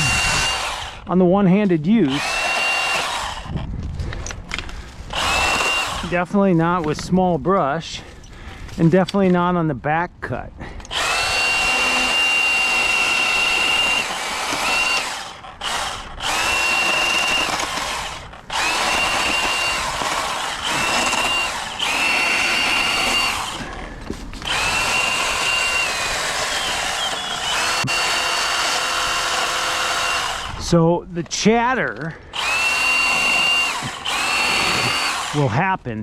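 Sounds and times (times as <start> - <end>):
pruning saw whining: 0.0 - 7.6, 10.8 - 35.7.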